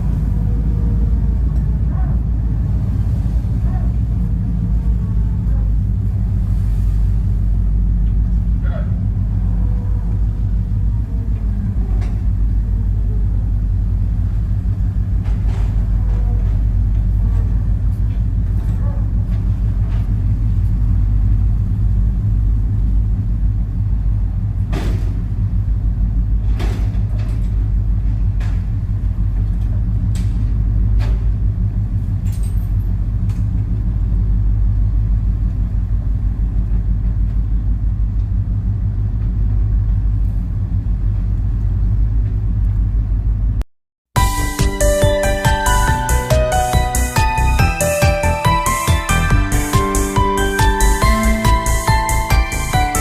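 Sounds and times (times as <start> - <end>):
large engine rumbling: 0.0 - 43.6, 44.2 - 53.0.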